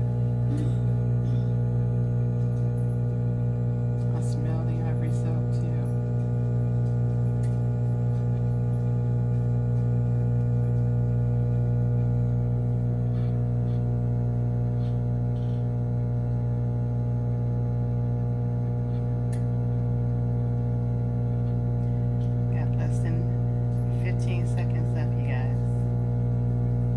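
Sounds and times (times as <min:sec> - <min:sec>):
microwave oven humming: 0:00.0 - 0:26.9.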